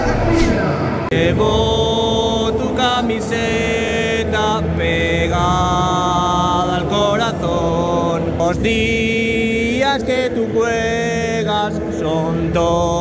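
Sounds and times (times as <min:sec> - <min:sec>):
choir singing over loudspeakers: 0:00.0 - 0:13.0
crowd noise: 0:00.0 - 0:13.0.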